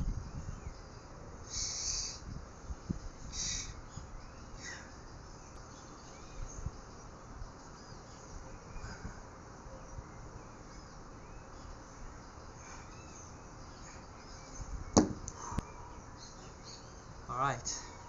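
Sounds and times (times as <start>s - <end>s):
faint steady background noise: 0.0s - 18.0s.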